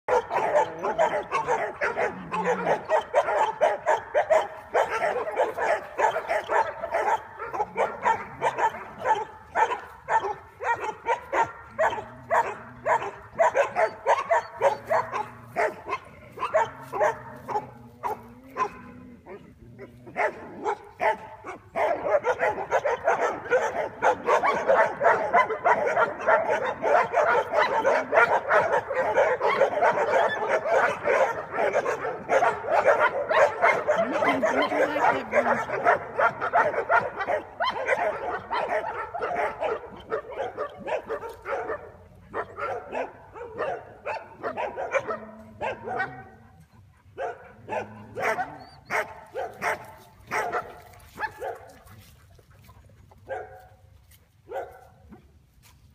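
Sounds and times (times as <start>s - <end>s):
dogs barking and yipping: 0.0s - 55.3s.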